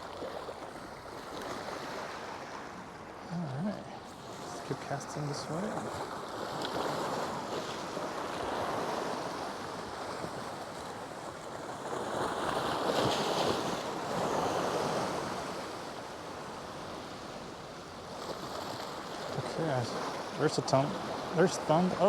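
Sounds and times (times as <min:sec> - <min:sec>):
surf waves rushing: 0:00.0 - 0:22.0.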